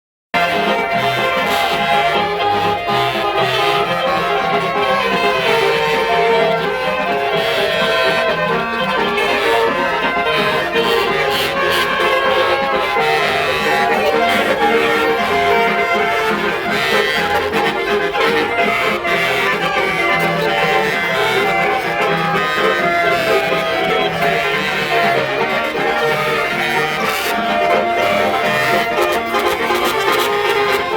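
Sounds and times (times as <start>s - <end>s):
instrumental music with bass line: 0.4s - 30.9s.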